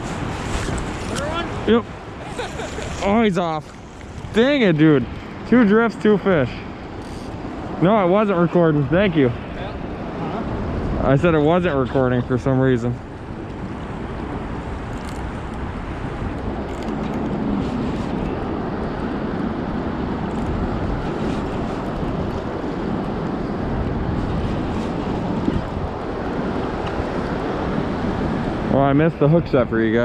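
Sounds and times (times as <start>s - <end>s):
gusting wind on microphone: 0.0s - 30.0s.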